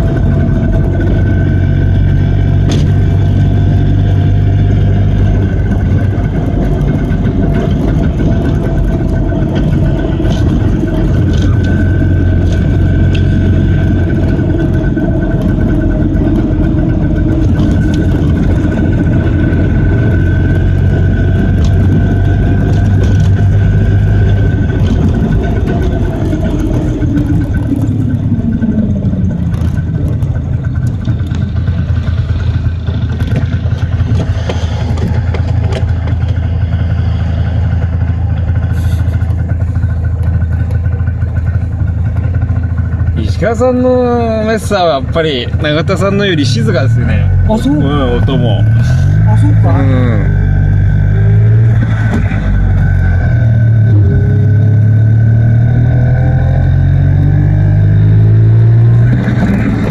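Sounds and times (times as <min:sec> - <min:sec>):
road and wind rumble: 0:00.0 - 0:59.9
small two-stroke car engine: 0:00.0 - 0:59.9.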